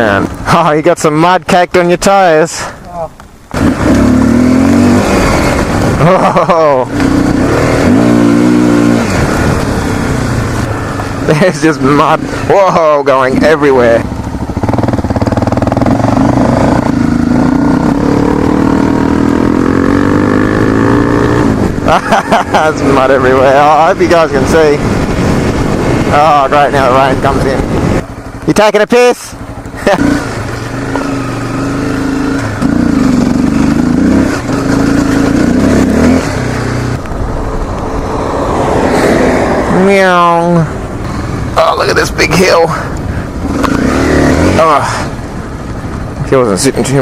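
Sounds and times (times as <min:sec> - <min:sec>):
dirt bike engine running: 0:03.4 - 0:47.0.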